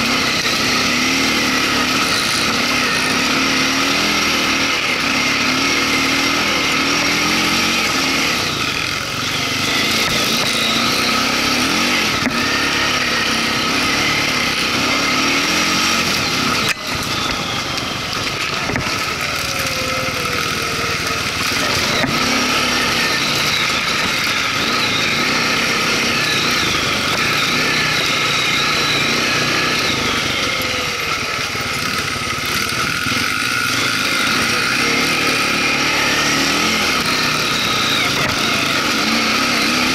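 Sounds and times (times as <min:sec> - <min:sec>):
off-road engine revving: 0:00.0 - 0:39.9.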